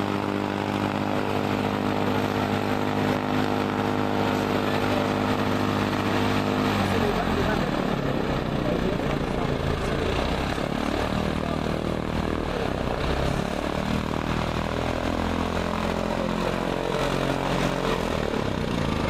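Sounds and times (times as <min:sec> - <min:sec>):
propeller aircraft engine: 0:00.0 - 0:19.0.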